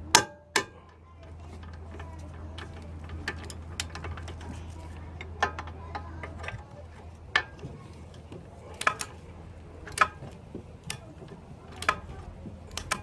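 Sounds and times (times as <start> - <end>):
hand tools clicking on metal: 0.0 - 13.0
low steady hum: 0.0 - 13.0.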